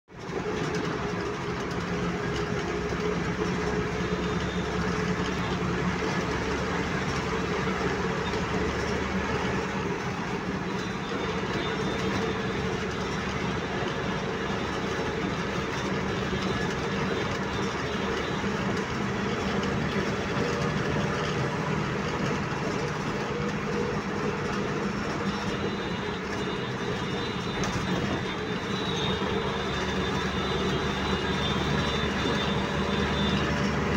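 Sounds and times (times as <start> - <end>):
road noise: 0.0 - 33.9
vehicle engine drone: 0.1 - 33.9.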